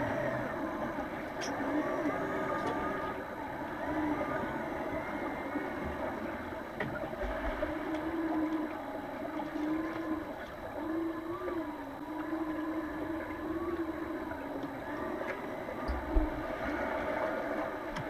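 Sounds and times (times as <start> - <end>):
faint clicks: 0.0 - 18.0
underwater pool hum: 0.0 - 18.0.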